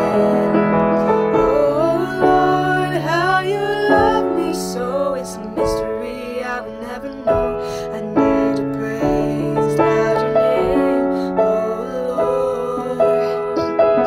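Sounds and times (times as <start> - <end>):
piano chords: 0.0 - 14.0
woman singing: 0.0 - 14.0.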